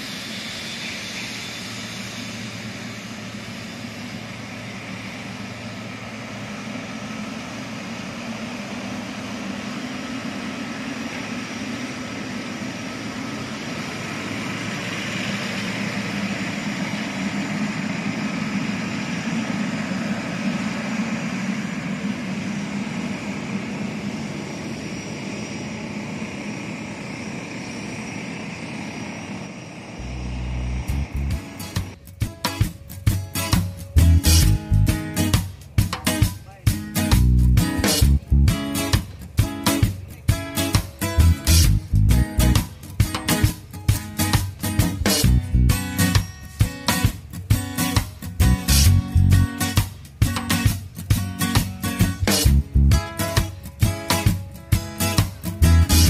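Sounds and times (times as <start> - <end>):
jet engines rumbling and whining: 0.0 - 56.0.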